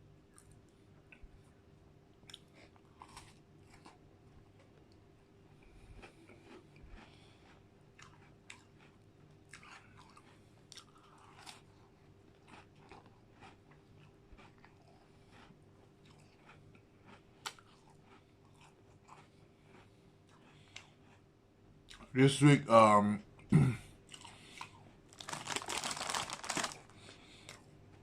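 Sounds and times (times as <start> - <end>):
chewing and crunching: 0.3 - 22.1, 24.0 - 28.0.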